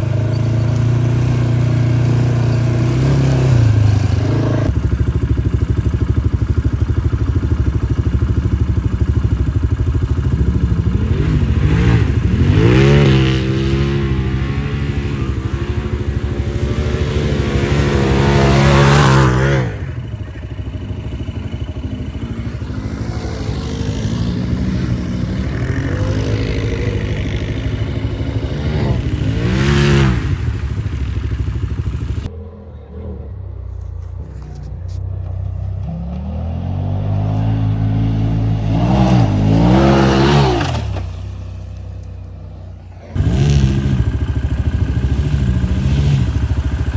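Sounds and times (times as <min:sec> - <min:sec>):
atv engines revving: 0:00.0 - 0:46.9.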